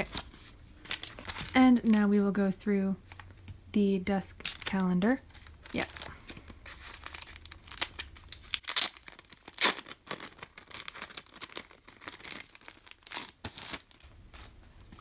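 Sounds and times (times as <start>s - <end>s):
plastic wrapping ripping: 0.0s - 2.1s, 4.4s - 15.0s
plastic wrapping crinkling: 0.0s - 2.4s, 4.3s - 15.0s.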